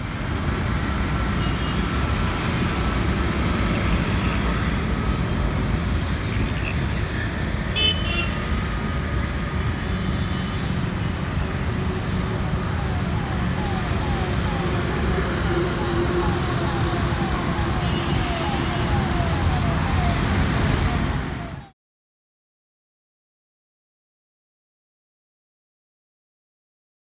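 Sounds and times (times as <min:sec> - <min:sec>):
road traffic noise: 0:00.0 - 0:21.7.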